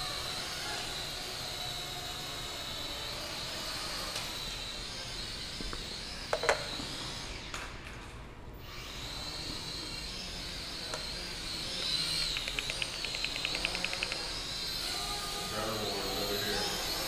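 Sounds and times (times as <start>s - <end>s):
toy drone motors whining: 0.0s - 17.0s.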